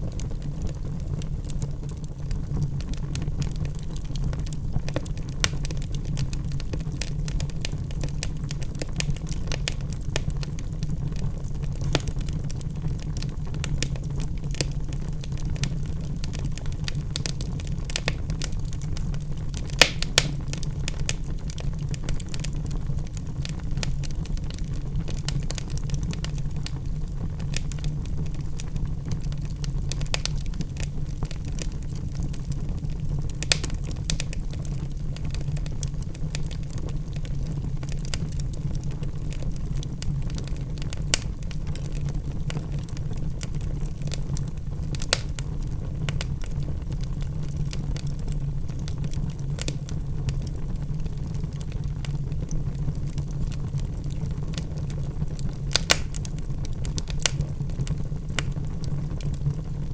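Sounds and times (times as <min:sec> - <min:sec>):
loud fire snaps: 0:00.0 - 0:59.9
low rumble of burning logs: 0:00.0 - 0:59.9
wood fire crackling: 0:00.0 - 0:59.9.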